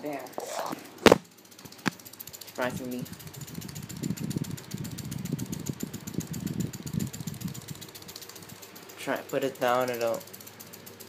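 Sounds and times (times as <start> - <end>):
fan blade rubbing: 0.0 - 11.0
fan motor clicking rattle: 0.0 - 11.0.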